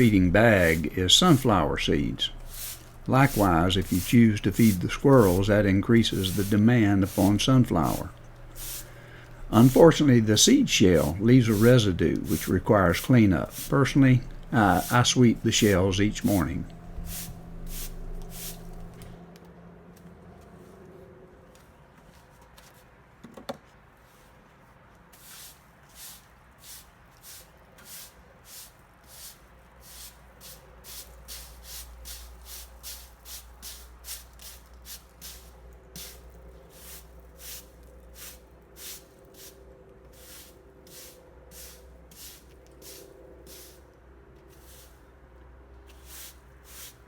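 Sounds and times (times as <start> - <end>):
broom sweeping: 0.0 - 19.2, 23.9 - 45.1, 45.8 - 47.0.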